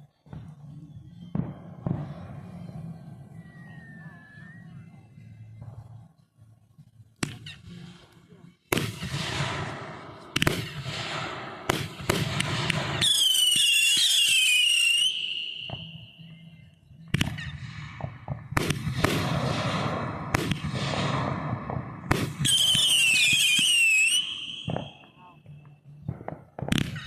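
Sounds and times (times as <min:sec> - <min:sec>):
fireworks bangs and crackling: 0:00.0 - 0:04.6, 0:08.6 - 0:16.4, 0:17.0 - 0:27.0
whistling firework: 0:00.0 - 0:06.1, 0:07.3 - 0:08.0, 0:08.8 - 0:25.4, 0:26.4 - 0:27.0.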